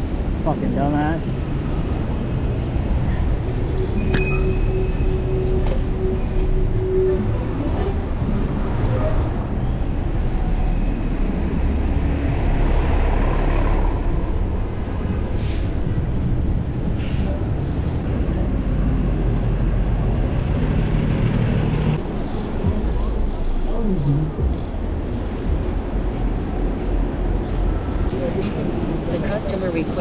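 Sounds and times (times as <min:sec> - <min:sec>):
rumble of traffic on wet streets: 0:00.0 - 0:30.0.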